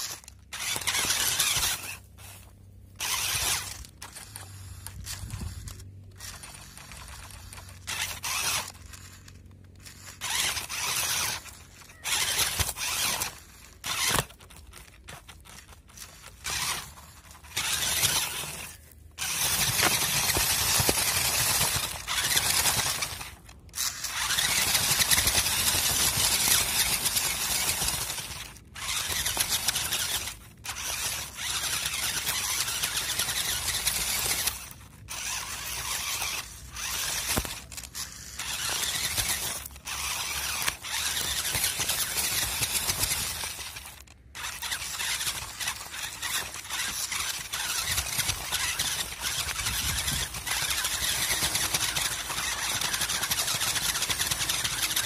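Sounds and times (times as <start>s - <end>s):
rc truck motor whining: 0.0s - 55.0s.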